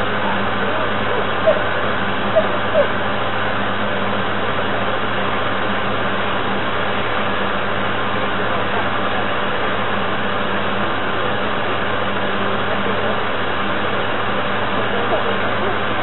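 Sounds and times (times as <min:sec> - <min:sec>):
model boat motor whirring drone: 0:00.0 - 0:16.0.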